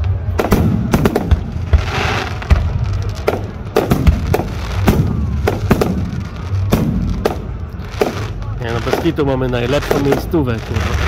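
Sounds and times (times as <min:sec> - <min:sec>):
steady low rumble: 0:00.0 - 0:09.9
fireworks bangs: 0:00.0 - 0:11.0
fireworks crackling hiss: 0:00.0 - 0:11.0.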